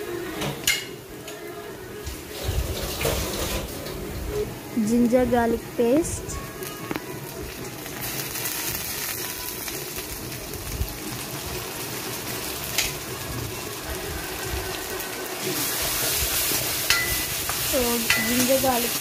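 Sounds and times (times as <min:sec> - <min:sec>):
vegetables sizzling in oil: 0:02.2 - 0:19.0.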